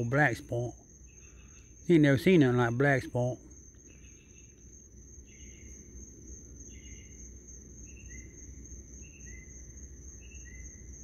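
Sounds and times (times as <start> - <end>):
insect chirps: 0.0 - 11.0
insect drone: 0.0 - 11.0
low background rumble: 0.0 - 11.0.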